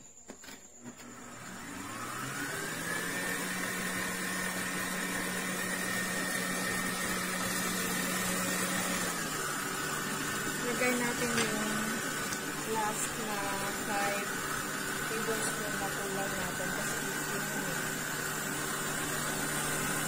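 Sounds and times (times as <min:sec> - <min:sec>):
stand mixer motor whining: 0:01.0 - 0:20.0.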